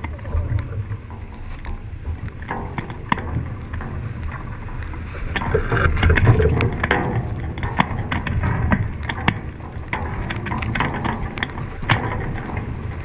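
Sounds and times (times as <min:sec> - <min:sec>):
rigging clicks and knocks: 0:00.0 - 0:13.0
wind rumbling on microphone: 0:00.0 - 0:13.0.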